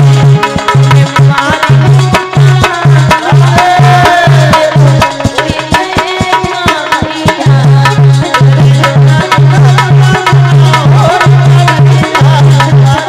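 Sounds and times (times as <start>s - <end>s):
devotional song: 0.0s - 13.0s
fast hand drumming: 0.0s - 13.0s.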